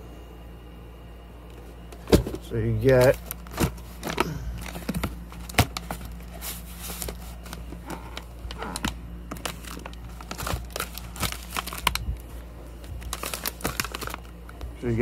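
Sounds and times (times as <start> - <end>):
plastic and cardboard crinkling: 1.7 - 15.0.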